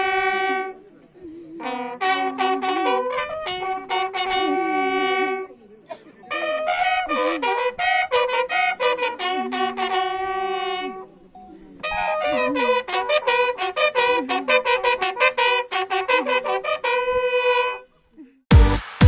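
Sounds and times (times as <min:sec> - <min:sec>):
bugle playing: 0:00.0 - 0:05.6, 0:06.3 - 0:11.1, 0:11.8 - 0:17.9.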